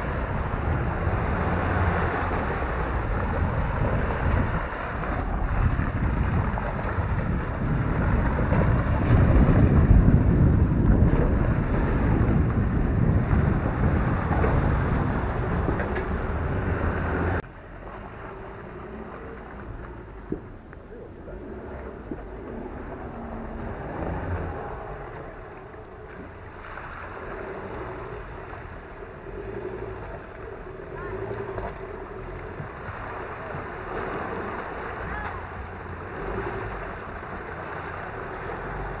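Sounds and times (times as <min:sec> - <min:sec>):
distant vehicle engine: 0:00.0 - 0:39.0
pickup engine running under load: 0:00.0 - 0:39.0
tyres churning mud and water: 0:00.0 - 0:39.0.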